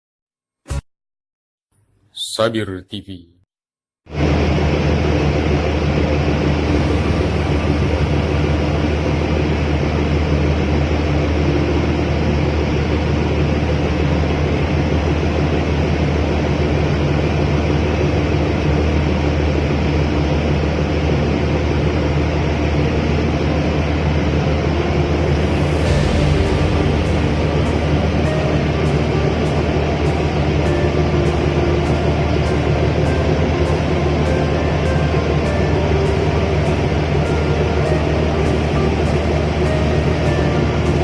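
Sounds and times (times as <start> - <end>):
boat engine droning: 4.1 - 41.0.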